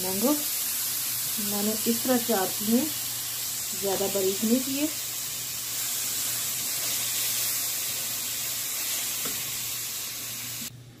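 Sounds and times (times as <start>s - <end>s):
fruit sizzling in a frying pan: 0.0s - 10.7s.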